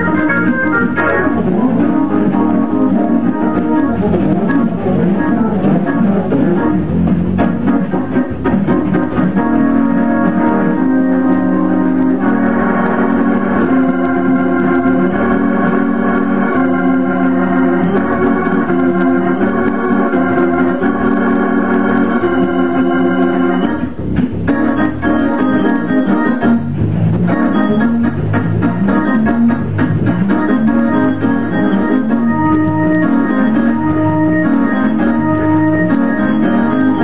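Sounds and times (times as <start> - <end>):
organ chords: 0.0 - 37.0.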